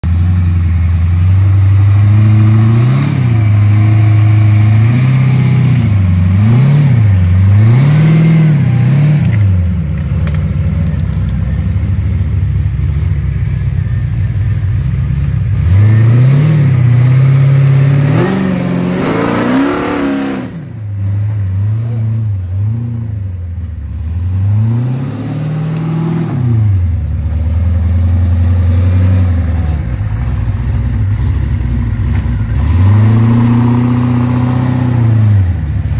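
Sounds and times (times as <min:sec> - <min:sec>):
buggy engine revving under load: 0:00.0 - 0:11.8, 0:14.8 - 0:35.9.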